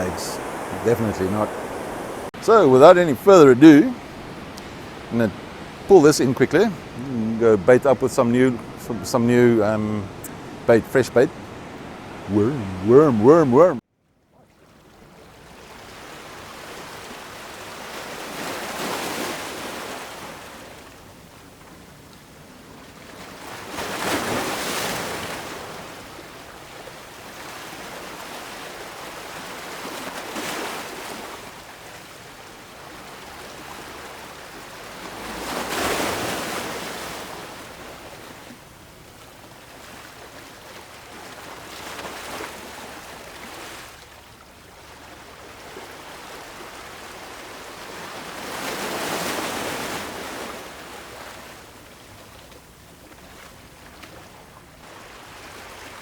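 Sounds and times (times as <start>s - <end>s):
ocean surf breaking: 0.0s - 13.8s, 15.2s - 44.2s, 44.8s - 51.6s.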